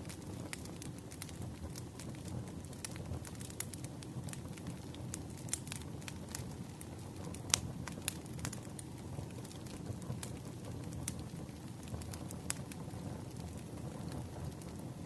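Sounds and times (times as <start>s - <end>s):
burning wood popping and snapping: 0.0s - 14.8s
low rumble of flames: 0.0s - 15.0s.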